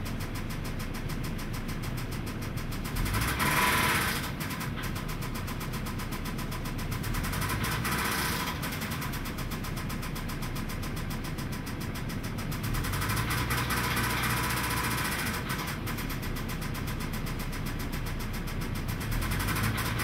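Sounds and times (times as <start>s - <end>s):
car engine knocking: 0.0s - 20.0s.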